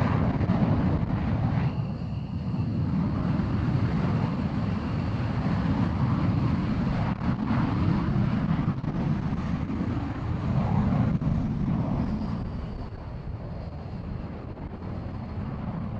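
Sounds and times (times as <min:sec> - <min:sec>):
jet engine low rumble: 0:00.0 - 0:15.9.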